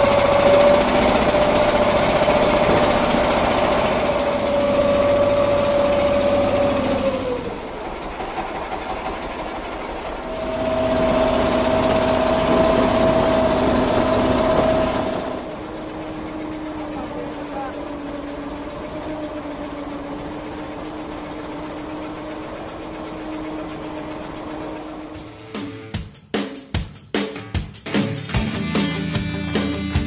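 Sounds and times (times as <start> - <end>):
boat engine humming: 0.0 - 25.8.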